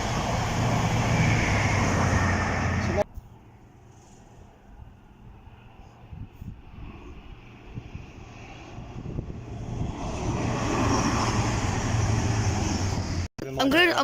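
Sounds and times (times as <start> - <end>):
train rumbling and rushing: 0.0 - 3.1, 3.8 - 13.3.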